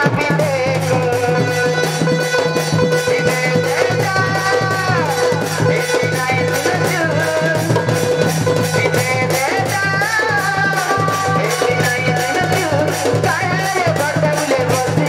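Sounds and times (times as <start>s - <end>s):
dhol drum beating: 0.0s - 15.0s.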